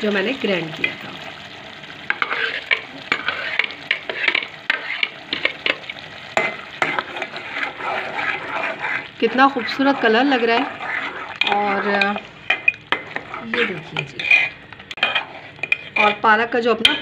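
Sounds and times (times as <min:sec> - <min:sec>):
food sizzling softly: 0:00.0 - 0:17.0
metal ladle scraping pot: 0:02.1 - 0:17.0.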